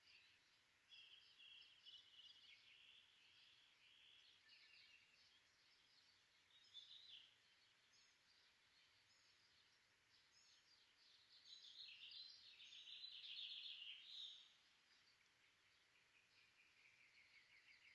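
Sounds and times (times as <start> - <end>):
small birds chirping and trilling: 0.0 - 17.9.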